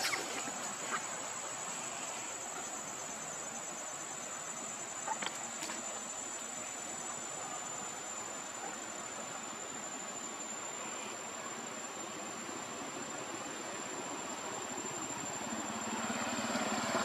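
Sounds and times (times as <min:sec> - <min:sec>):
insects droning: 0:00.0 - 0:17.0
outdoor hiss: 0:00.0 - 0:17.0.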